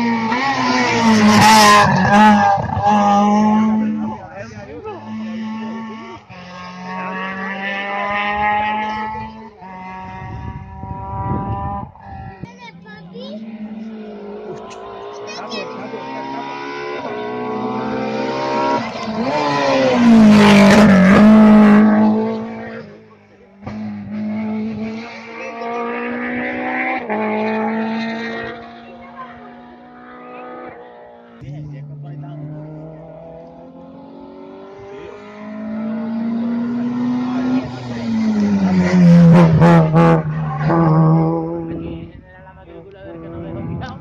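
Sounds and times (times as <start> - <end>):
rally car accelerating past: 0.0 - 12.5, 13.4 - 42.2.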